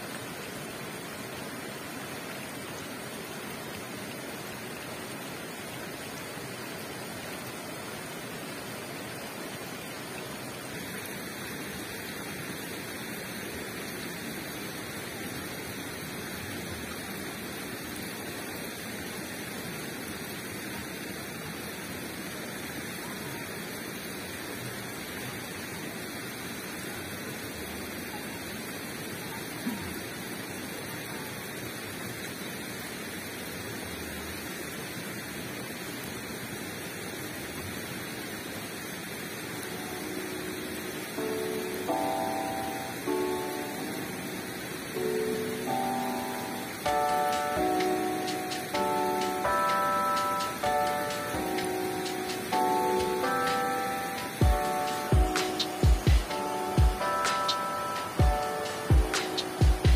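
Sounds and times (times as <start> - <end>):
river and waterfall rushing: 0.0 - 59.9.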